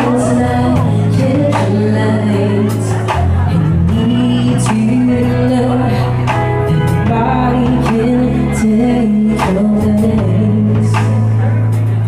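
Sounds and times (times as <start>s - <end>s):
loud band music: 0.0s - 12.0s
person singing: 0.0s - 12.0s.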